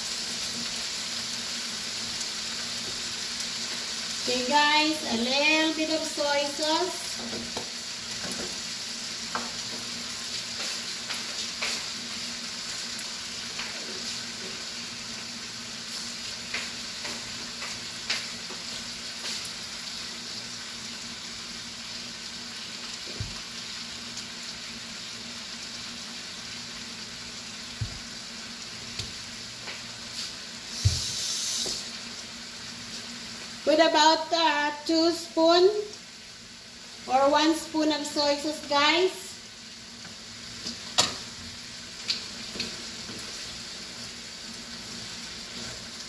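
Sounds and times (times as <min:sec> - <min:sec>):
food sizzling in a frying pan: 0:00.0 - 0:46.0.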